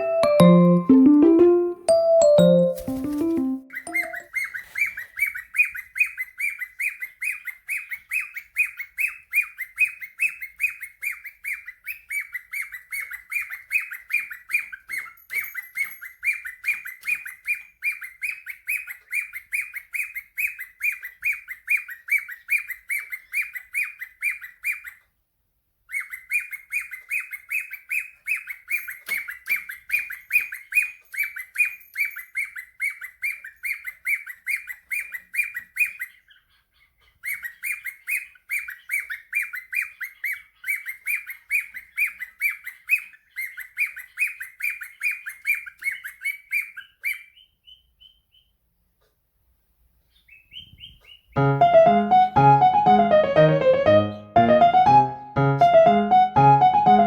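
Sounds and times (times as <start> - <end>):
cockatiel chirping: 2.0 - 25.1, 25.9 - 48.5.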